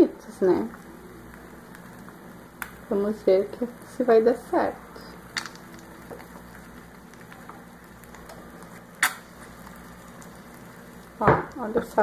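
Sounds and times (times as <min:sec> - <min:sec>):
eggs sizzling: 0:00.0 - 0:12.0.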